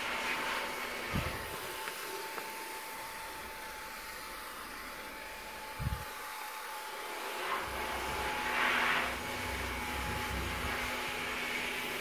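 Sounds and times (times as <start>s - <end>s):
pressure sprayer hissing: 0.0s - 12.0s.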